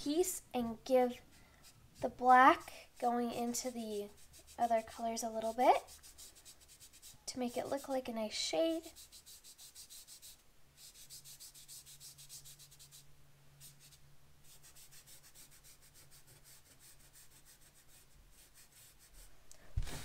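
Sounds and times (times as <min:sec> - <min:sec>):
chalk pastel rubbing on paper: 0:01.0 - 0:08.1, 0:08.8 - 0:19.3.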